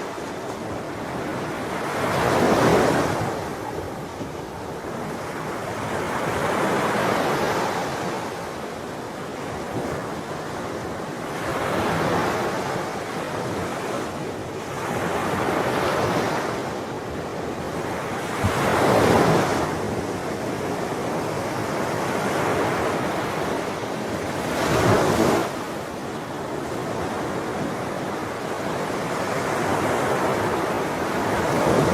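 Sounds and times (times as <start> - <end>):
ocean waves breaking: 0.0 - 31.9.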